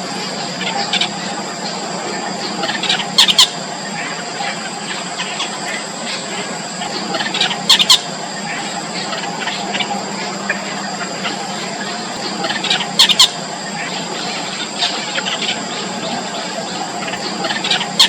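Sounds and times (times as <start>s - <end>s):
bird chicks squeaking: 0.5s - 18.0s.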